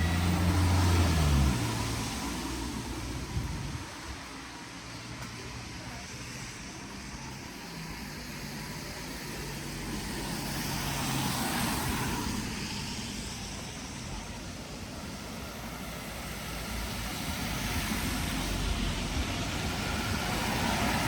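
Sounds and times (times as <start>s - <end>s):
engine rumble: 0.0s - 21.0s
vehicles passing on wet street: 0.0s - 21.0s.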